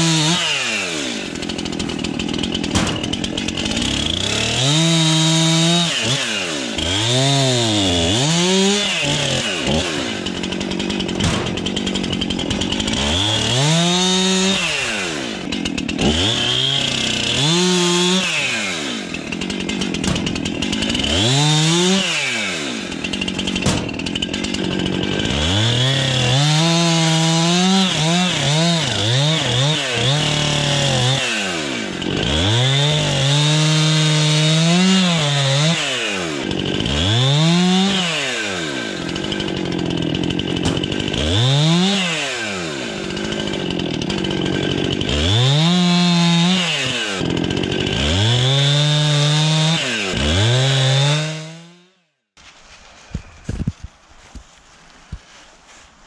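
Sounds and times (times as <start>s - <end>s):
chainsaw cutting branches: 0.0s - 55.9s.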